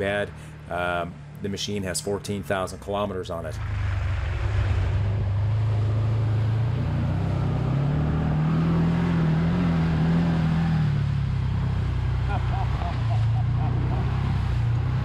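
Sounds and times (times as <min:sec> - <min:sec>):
vehicle engine in watery mud: 0:02.1 - 0:15.0.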